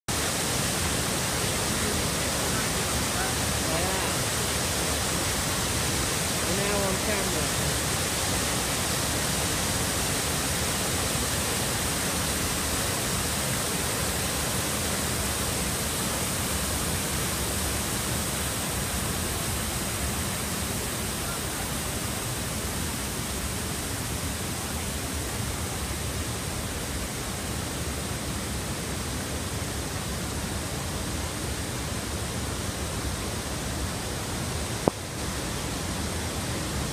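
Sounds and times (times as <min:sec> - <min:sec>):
river water rushing over rocks: 0:00.1 - 0:36.9.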